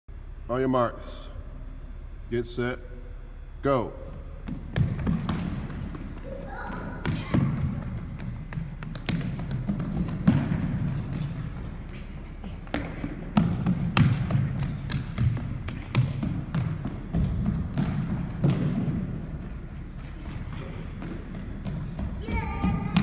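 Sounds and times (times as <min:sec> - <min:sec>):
running footsteps on hardwood floor: 0:04.4 - 0:23.0.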